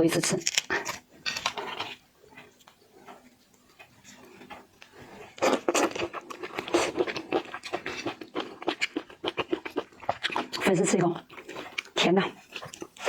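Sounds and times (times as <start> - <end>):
person chewing wetly: 0.4 - 13.0.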